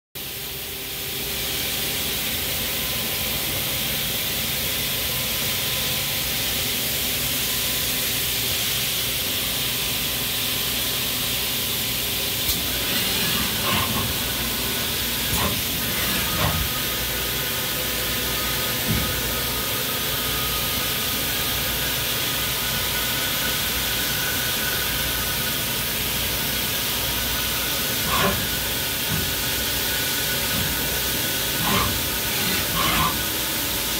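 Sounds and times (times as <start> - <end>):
lathe hiss and hum: 0.2 - 33.9.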